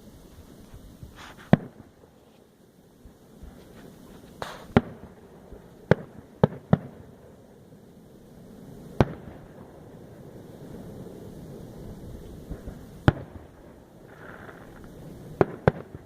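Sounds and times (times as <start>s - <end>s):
firework whoosh: 0.0s - 16.0s
fireworks bangs: 1.0s - 2.4s, 3.0s - 7.5s, 8.8s - 16.0s.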